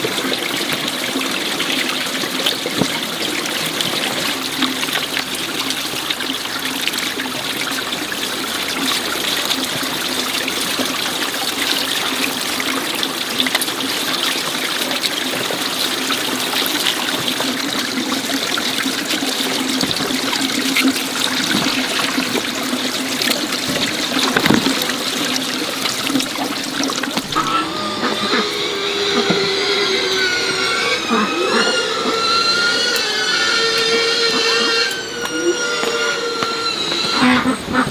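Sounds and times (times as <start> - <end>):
running water splashing: 0.0 - 37.9.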